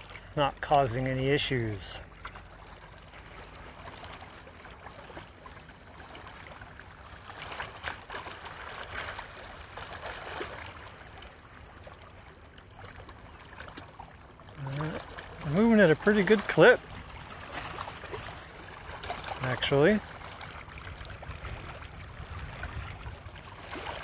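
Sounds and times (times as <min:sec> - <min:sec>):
low steady rumble: 0:00.0 - 0:24.0
waves lapping at shoreline: 0:00.0 - 0:24.0.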